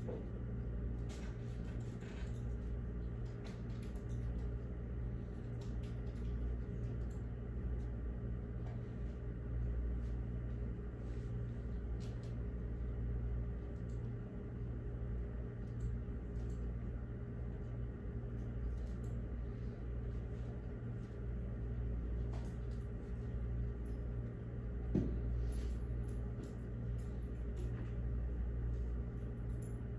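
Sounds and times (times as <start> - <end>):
low room hum: 0.0 - 29.9.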